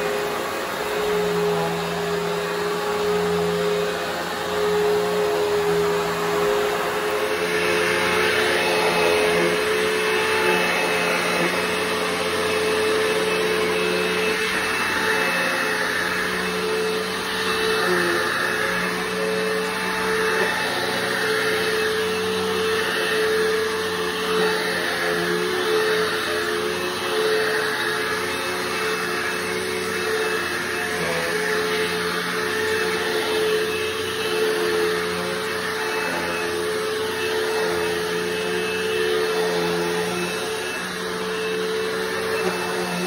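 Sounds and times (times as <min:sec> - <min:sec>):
vacuum cleaner motor whine: 0:00.0 - 0:43.0.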